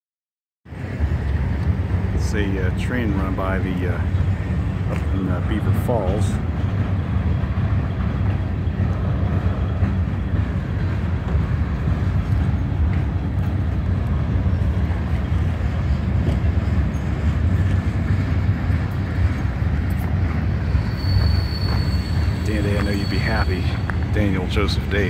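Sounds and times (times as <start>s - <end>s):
train wheels rumbling on rails: 0.7s - 25.0s.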